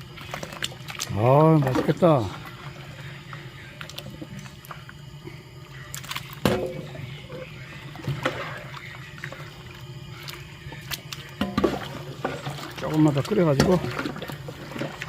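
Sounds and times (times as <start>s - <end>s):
liquid simmering and sloshing in pot: 0.0s - 15.0s
steady low hum: 0.0s - 15.0s.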